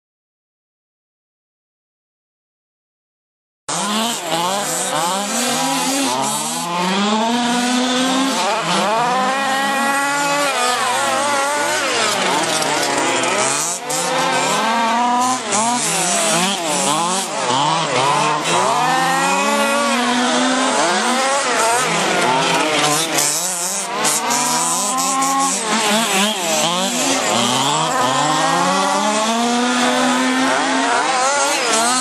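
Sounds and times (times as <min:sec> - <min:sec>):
rc car engines racing: 0:03.7 - 0:32.0.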